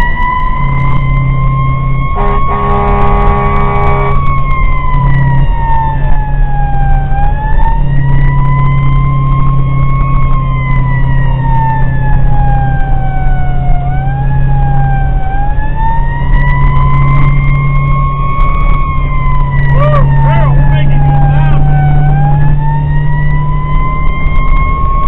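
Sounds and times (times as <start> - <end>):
fire engine siren wailing: 0.0 - 25.0
truck engine droning: 0.0 - 25.0.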